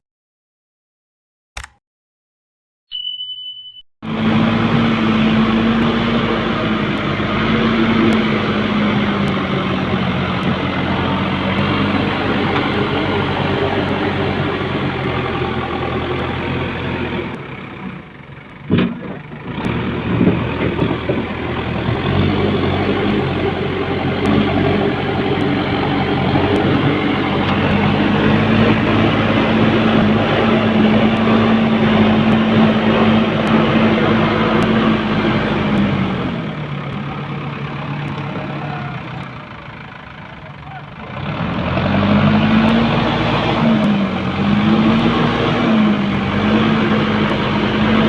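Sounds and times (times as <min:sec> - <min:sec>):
diesel engine running: 0:04.0 - 0:48.0.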